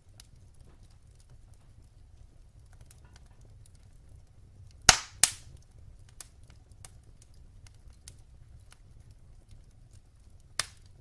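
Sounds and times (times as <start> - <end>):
fire crackling: 0.0 - 11.0
flames rumbling: 0.0 - 11.0.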